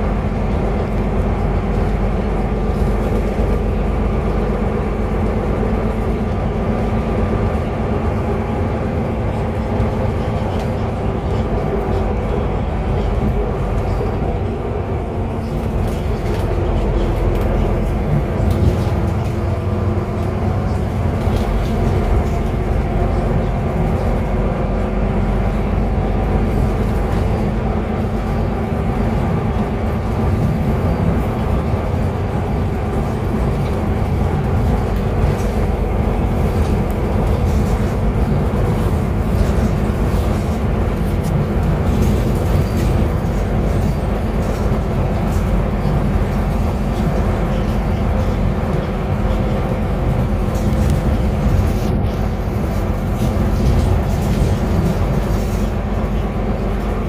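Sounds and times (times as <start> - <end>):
bus engine hum: 0.0 - 57.0
road rumble: 0.0 - 57.0.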